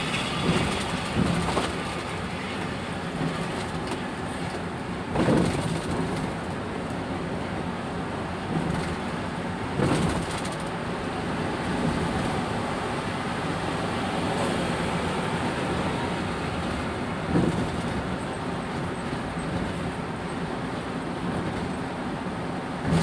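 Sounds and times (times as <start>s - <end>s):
car road noise rumble: 0.0s - 23.0s.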